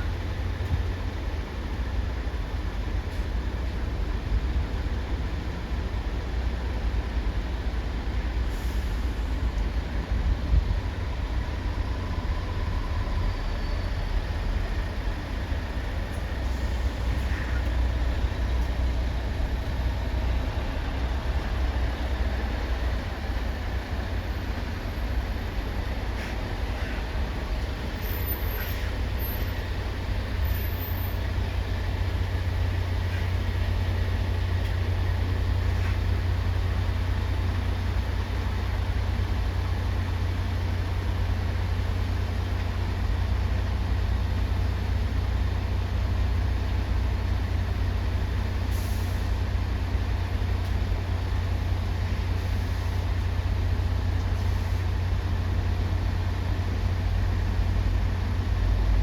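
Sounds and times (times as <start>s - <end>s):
heavy vehicles rumbling: 0.0s - 59.0s.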